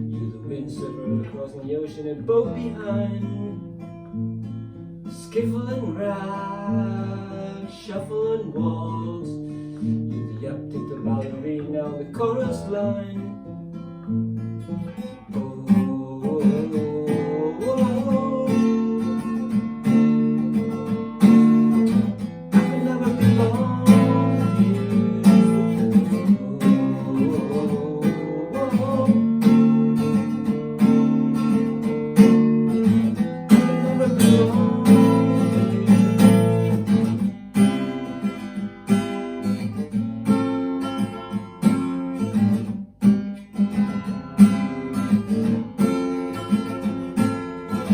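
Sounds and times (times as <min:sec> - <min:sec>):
acoustic guitars strumming: 0:00.0 - 0:47.9.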